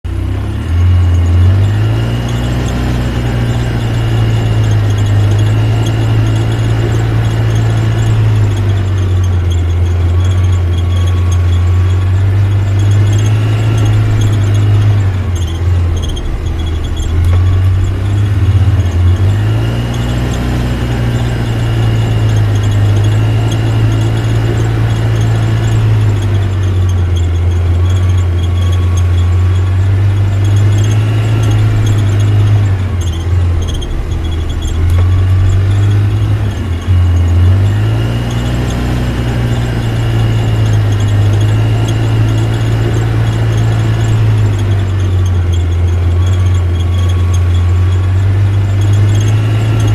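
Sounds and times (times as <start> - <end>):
engine revving: 0.0 - 49.9.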